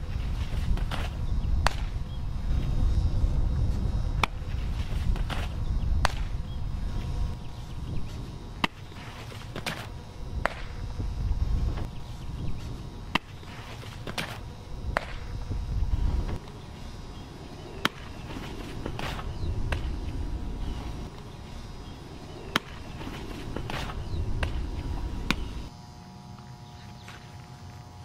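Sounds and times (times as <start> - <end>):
wind rumble on microphone: 0.0 - 25.7.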